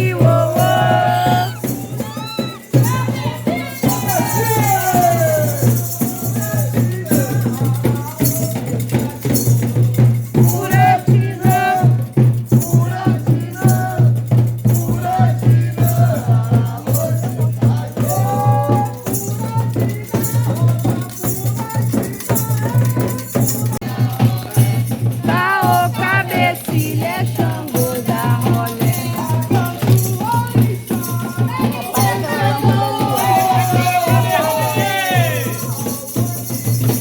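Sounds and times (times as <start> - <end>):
rattles shaken in rhythm: 0.0 - 37.0
voices singing and calling: 0.0 - 37.0.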